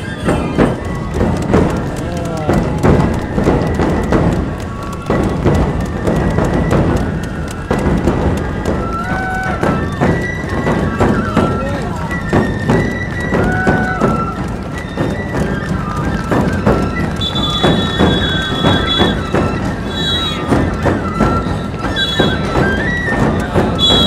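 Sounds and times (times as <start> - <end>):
bamboo flutes melody: 0.0 - 24.0
taiko drums beating: 0.0 - 24.0.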